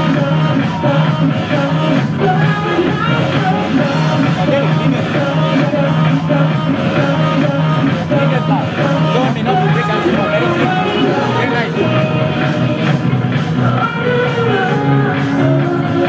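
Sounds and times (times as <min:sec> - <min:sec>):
dance music with singing: 0:00.0 - 0:16.0.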